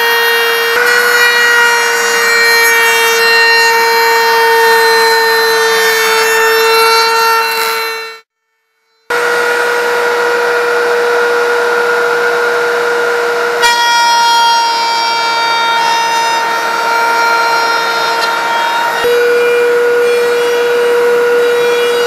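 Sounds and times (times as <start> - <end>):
power tool high whine: 0.0 - 22.0.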